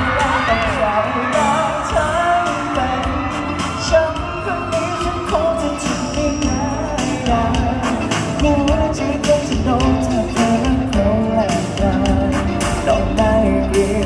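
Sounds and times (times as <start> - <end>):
backing music: 0.0 - 14.0
man singing into microphone: 0.0 - 14.0.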